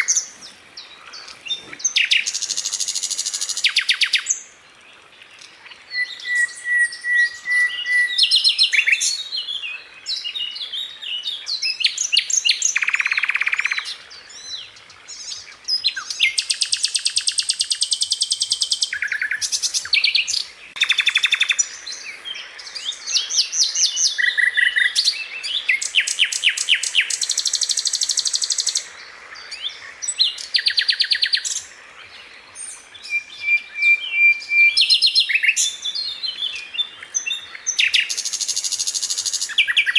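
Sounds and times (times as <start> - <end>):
flycatcher singing trills and whistles: 0.0 - 4.5, 5.4 - 31.8, 32.5 - 39.9.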